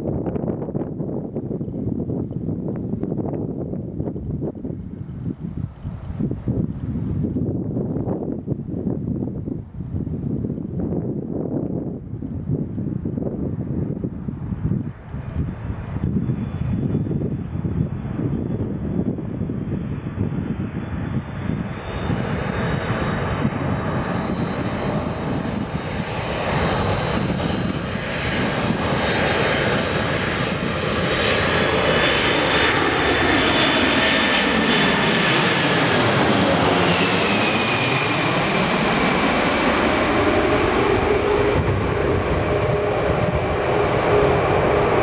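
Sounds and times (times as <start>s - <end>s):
jet airliner passing overhead: 0.0s - 45.0s
jet engine whine: 0.0s - 45.0s.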